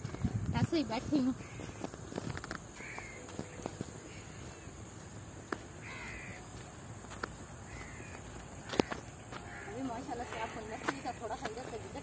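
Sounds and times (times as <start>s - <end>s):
outdoor background noise: 0.0s - 12.0s
bird calling: 0.8s - 12.0s.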